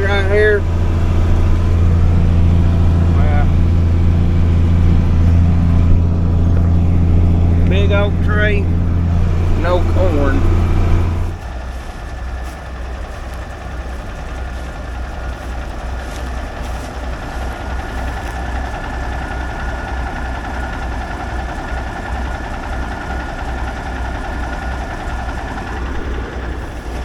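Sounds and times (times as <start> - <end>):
diesel truck engine rumble: 0.0 - 27.0.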